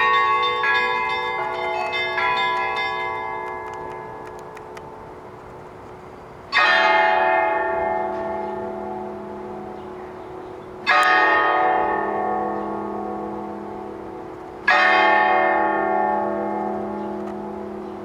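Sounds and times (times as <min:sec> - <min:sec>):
large church bell ringing: 0:00.0 - 0:05.4, 0:06.4 - 0:18.0.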